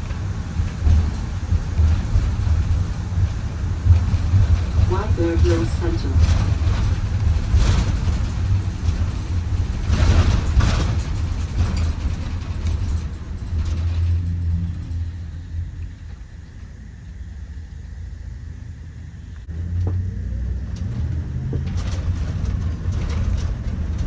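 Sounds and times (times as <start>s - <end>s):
rattling surges: 0.0s - 19.3s
bus engine and road rumble: 0.0s - 24.0s.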